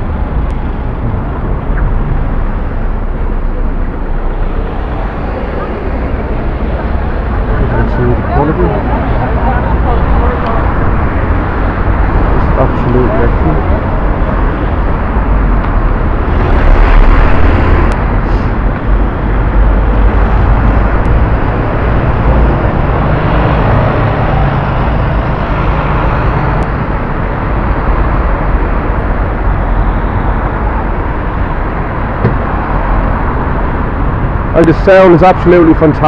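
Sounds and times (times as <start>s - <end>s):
city street traffic: 0.0s - 36.0s.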